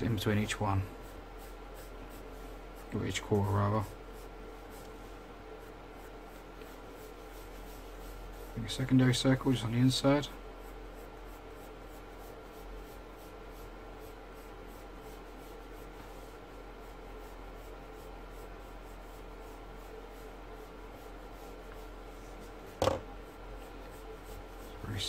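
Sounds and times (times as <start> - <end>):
pencil sketching on paper: 0.0 - 25.0.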